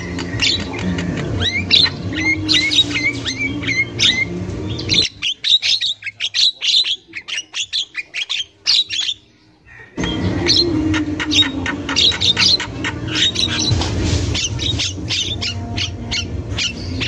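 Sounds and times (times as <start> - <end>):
myna chattering calls: 0.0 - 17.0.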